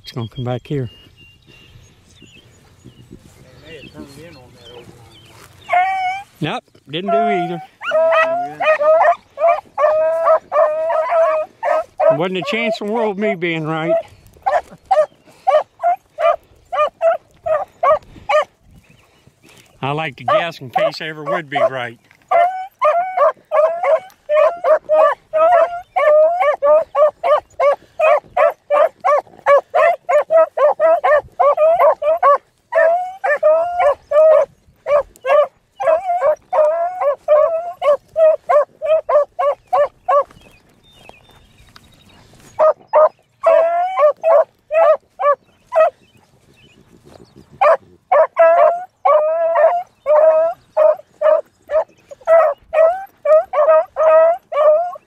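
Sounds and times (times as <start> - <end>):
dogs yelping barks: 3.6 - 18.6, 19.5 - 55.0.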